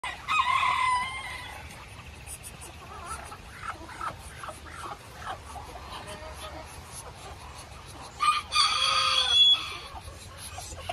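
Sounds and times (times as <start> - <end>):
poultry calling: 0.0 - 10.9.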